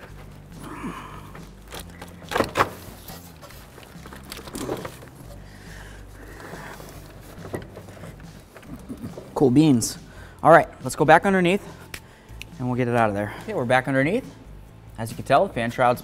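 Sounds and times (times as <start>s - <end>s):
gloved hands handling hoses: 0.0s - 10.5s, 11.2s - 14.7s.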